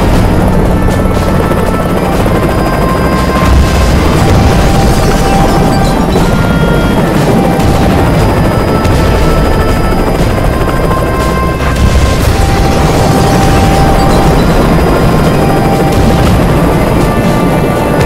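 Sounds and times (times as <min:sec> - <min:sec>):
booming explosions: 0:00.0 - 0:18.0
helicopter rotor rumble: 0:00.0 - 0:18.0.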